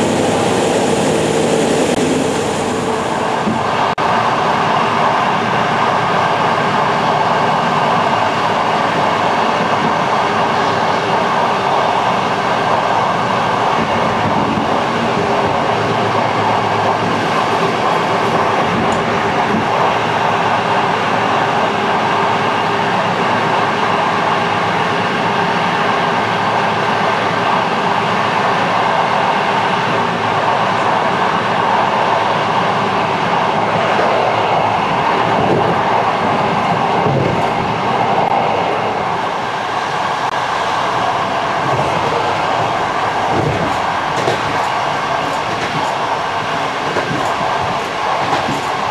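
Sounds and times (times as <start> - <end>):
passenger train rolling: 0.0 - 48.9.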